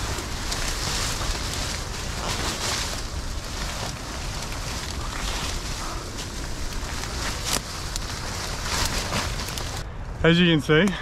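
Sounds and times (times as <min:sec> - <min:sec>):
footsteps crackling in leaf litter: 0:00.0 - 0:09.8
leaves and branches rustling: 0:00.0 - 0:11.0.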